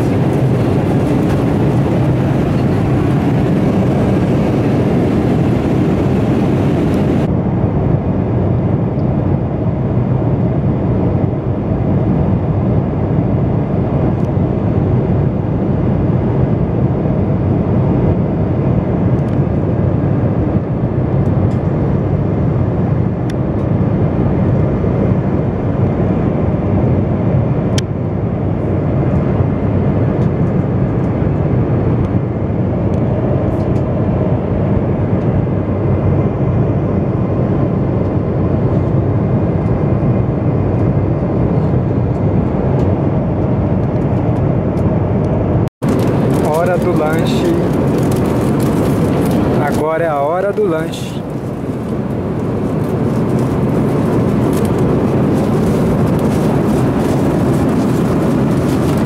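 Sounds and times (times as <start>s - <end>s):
airliner engine and airflow rumble: 0.0s - 59.0s.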